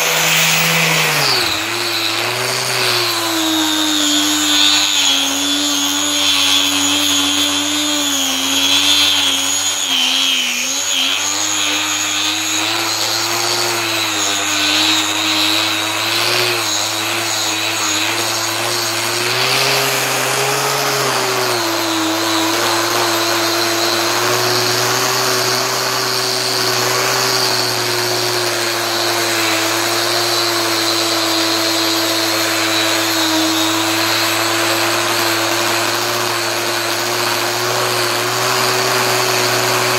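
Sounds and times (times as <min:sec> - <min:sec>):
abrasive rasping on metal: 0:00.0 - 0:39.9
power tool motor whine: 0:00.0 - 0:39.9.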